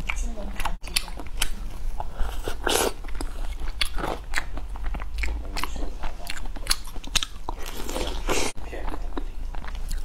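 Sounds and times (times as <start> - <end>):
chewing and biting food: 0.0 - 10.0.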